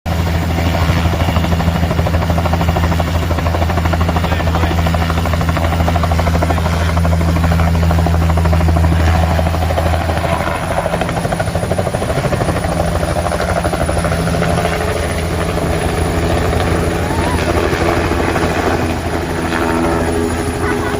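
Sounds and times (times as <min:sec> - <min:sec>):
helicopter rotor chopping: 0:00.1 - 0:20.9.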